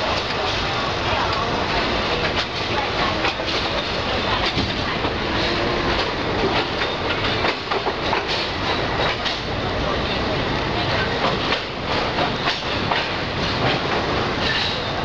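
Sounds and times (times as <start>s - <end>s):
train wheels clacking over joints: 0.0s - 15.0s.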